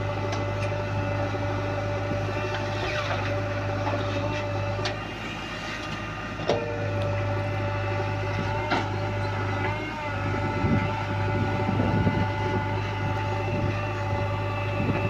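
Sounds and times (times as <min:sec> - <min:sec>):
constant whine: 0:00.0 - 0:15.0
diesel engine running: 0:00.0 - 0:15.0.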